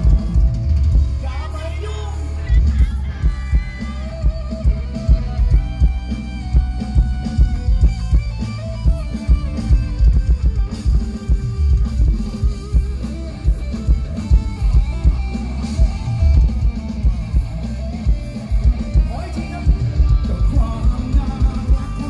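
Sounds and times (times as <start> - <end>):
live rock band music: 0.0 - 22.0.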